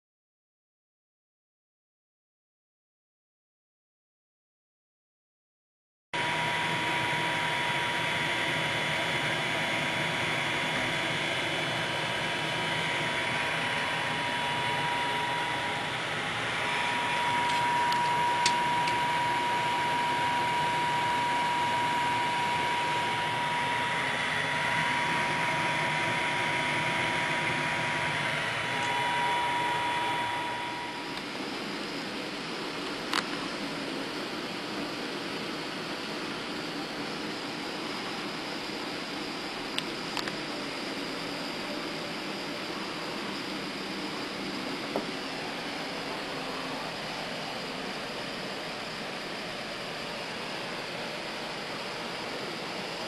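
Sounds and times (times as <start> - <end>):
high whine: 6.2 - 53.0
mechanical whir and hiss: 6.2 - 53.0.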